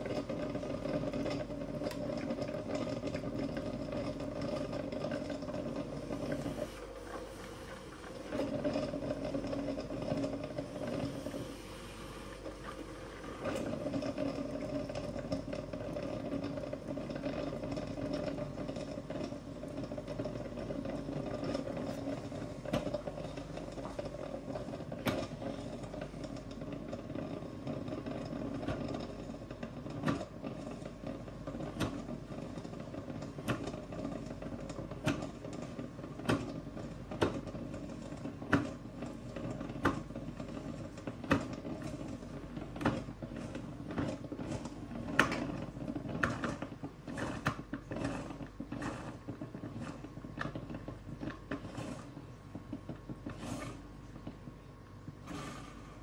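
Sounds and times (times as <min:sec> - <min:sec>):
coffee maker gurgling and humming: 0:00.0 - 0:56.0
coffee maker sputtering pops: 0:00.0 - 0:56.0.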